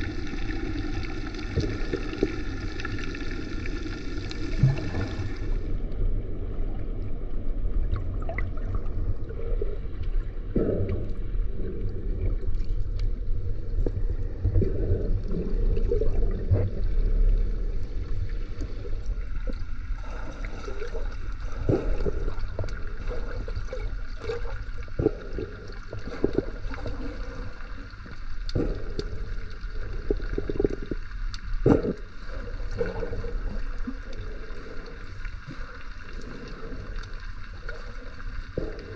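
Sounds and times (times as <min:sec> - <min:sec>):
underwater rumble and sloshing: 0:00.0 - 0:38.9.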